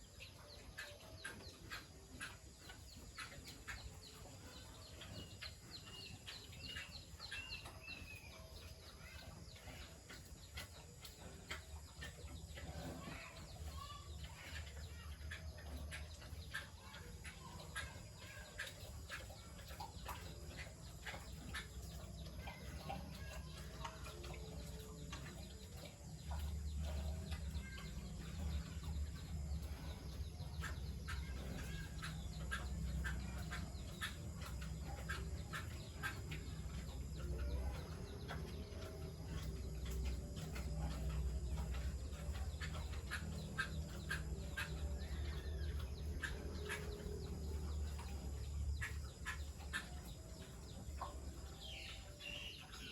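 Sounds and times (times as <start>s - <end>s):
birds calling: 0.0s - 52.9s.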